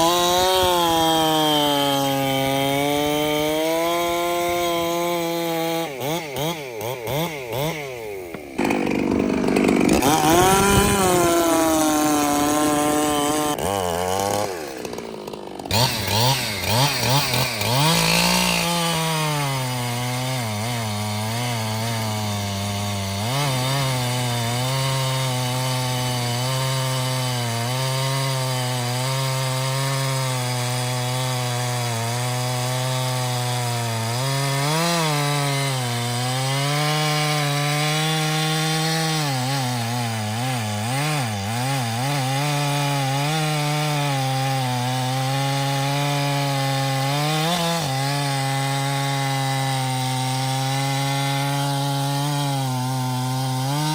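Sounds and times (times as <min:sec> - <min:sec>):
chainsaw revving and cutting wood: 0:00.0 - 0:53.9.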